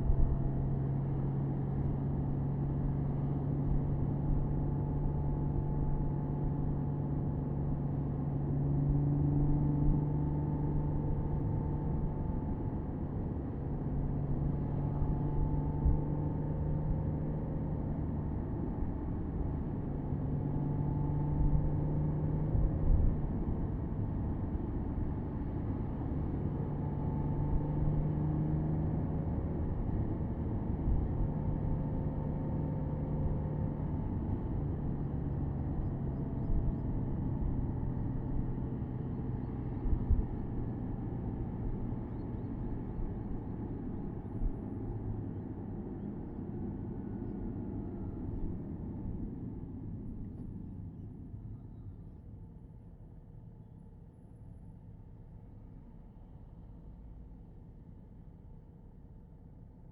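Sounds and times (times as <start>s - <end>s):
road and wind noise: 0.0s - 53.6s.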